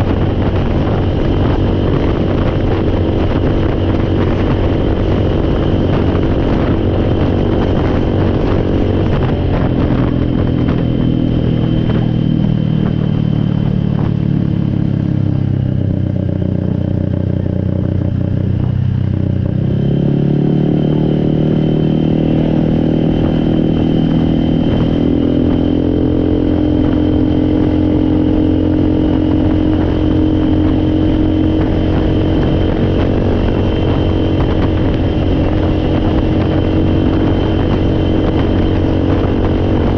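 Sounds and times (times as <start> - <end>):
atv engine running: 0.0 - 39.9
steady high whine: 0.0 - 39.9.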